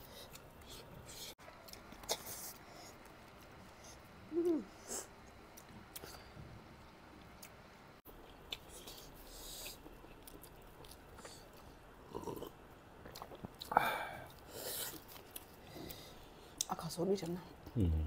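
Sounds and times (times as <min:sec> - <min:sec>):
people chewing food: 0:00.0 - 0:18.0.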